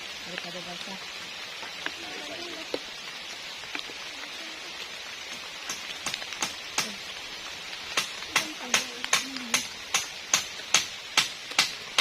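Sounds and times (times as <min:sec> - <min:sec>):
raindrops tapping: 0:00.0 - 0:12.0
steady rain hiss: 0:00.0 - 0:12.0.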